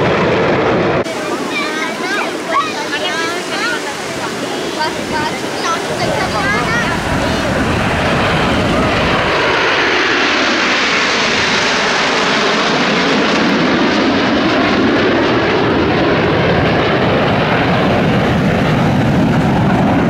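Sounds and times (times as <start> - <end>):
jet aircraft flying past: 0.0 - 20.0.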